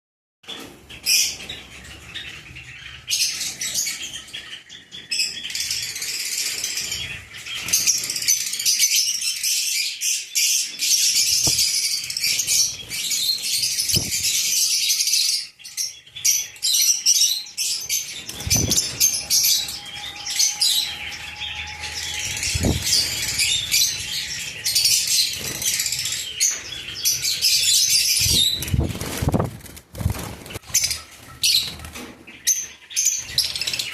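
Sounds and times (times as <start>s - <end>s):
birds chattering and screeching: 0.5s - 33.9s.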